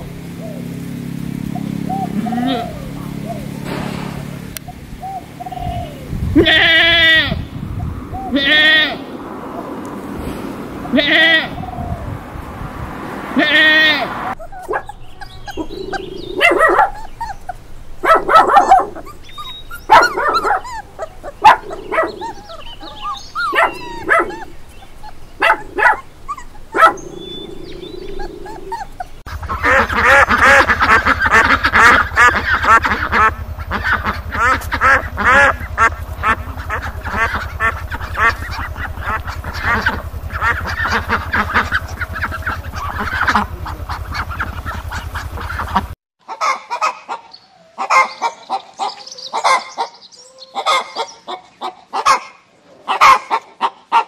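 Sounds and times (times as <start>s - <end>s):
ducks quacking: 1.2s - 7.4s, 8.2s - 12.0s, 13.2s - 54.0s
puppies crying: 1.4s - 7.4s, 8.0s - 9.8s, 13.2s - 54.0s.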